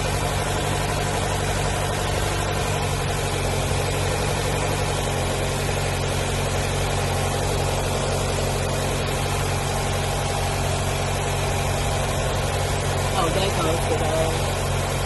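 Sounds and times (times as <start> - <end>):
car engine idling high: 0.0 - 15.0.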